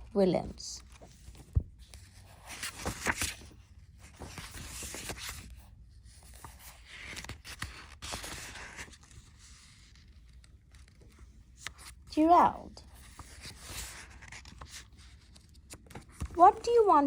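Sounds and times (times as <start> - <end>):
paper pages rustling: 0.8 - 17.0.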